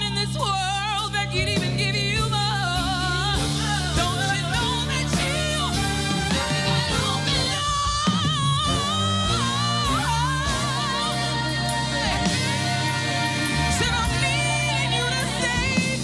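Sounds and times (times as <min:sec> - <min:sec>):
soul band playing: 0:00.0 - 0:16.0
woman singing: 0:00.0 - 0:16.0.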